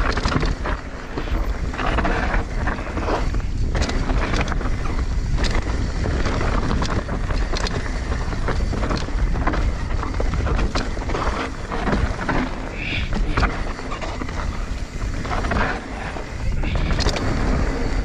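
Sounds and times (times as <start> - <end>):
bike clicking and knocking: 0.0 - 18.0
wind buffeting microphone: 0.0 - 18.0.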